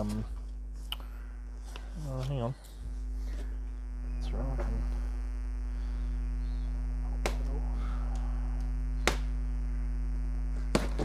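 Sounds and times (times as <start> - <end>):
microphone electrical hum: 0.0 - 11.0.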